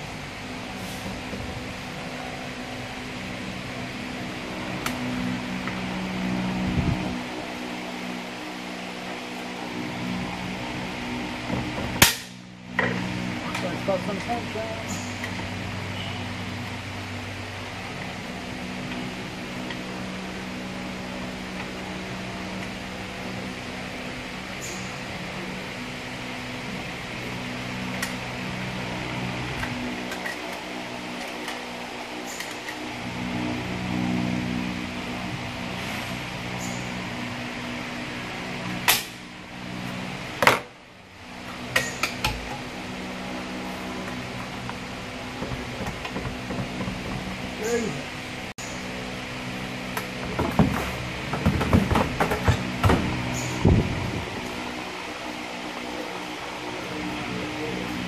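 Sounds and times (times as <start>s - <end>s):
mechanical hum with hiss: 0.0s - 58.0s.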